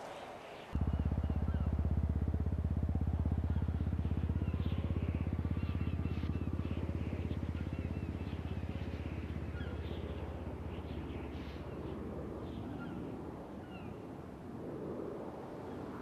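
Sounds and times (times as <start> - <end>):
birds chirping: 0.0 - 14.2
low pulsing rumble: 0.8 - 13.7.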